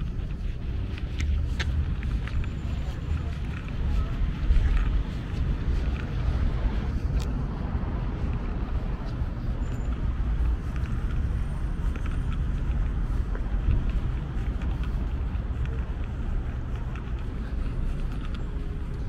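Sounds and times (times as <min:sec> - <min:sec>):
urban outdoor ambience: 0:00.0 - 0:19.0
wind buffeting microphone: 0:00.0 - 0:19.0.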